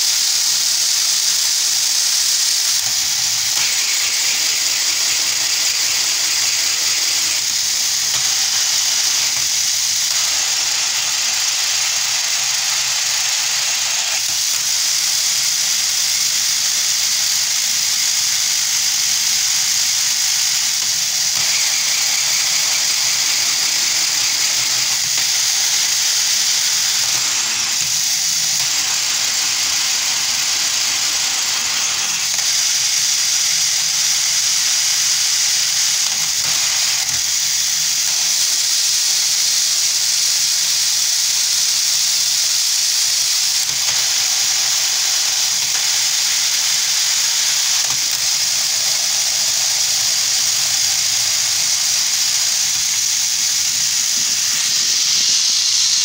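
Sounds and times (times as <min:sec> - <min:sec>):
steady high hiss: 0:00.0 - 0:56.0.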